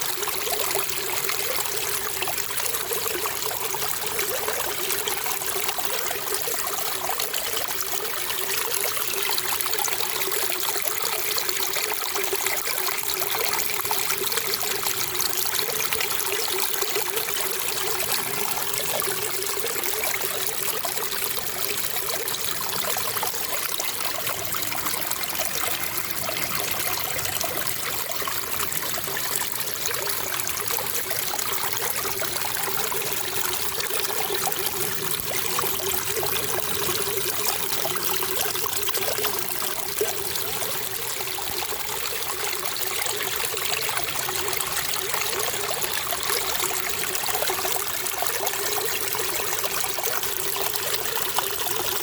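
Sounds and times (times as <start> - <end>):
water trickling and running: 0.0 - 52.0.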